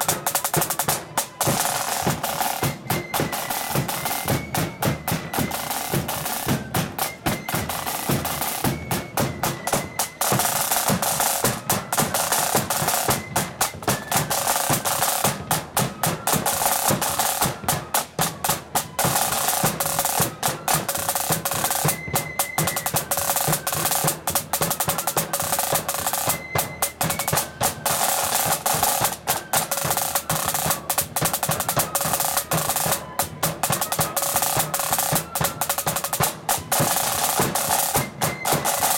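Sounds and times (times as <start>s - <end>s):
side drums rolling: 0.0s - 38.9s.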